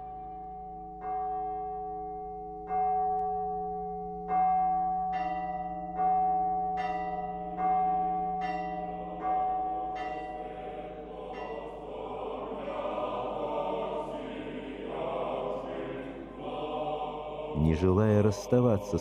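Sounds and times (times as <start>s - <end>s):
church bell ringing: 0.0s - 16.4s.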